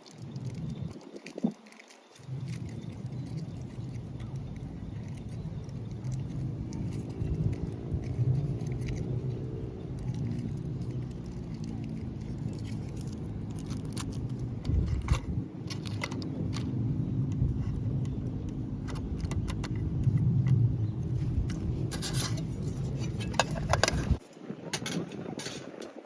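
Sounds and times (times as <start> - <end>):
metallic clinks and scrapes: 0.0 - 16.8, 18.8 - 26.0
low hum: 2.2 - 24.2.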